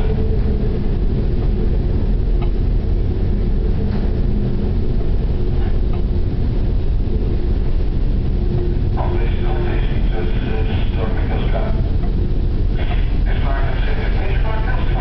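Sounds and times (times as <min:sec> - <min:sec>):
ship engine hum: 0:00.0 - 0:15.0
wind: 0:00.0 - 0:15.0.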